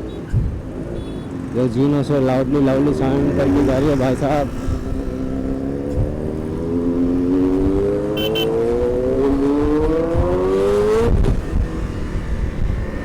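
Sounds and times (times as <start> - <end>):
motorcycle engine revving: 1.3 - 13.0.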